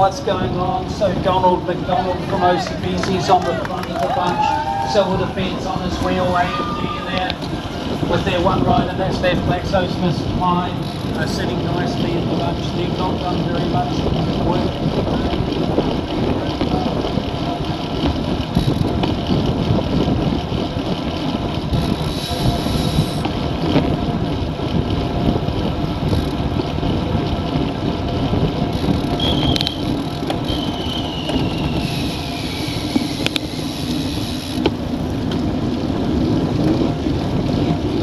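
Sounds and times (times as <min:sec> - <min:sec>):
tyre and road noise: 0:00.0 - 0:38.0
wind buffeting microphone: 0:00.0 - 0:38.0.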